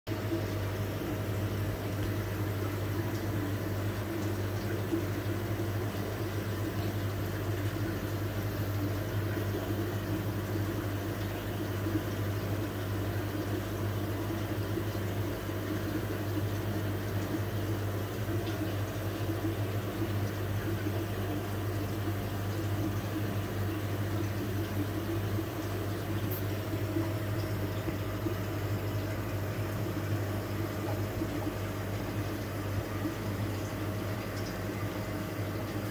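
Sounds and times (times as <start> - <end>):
aquarium filter bubbling: 0.1 - 35.9
low steady hum: 0.1 - 35.9.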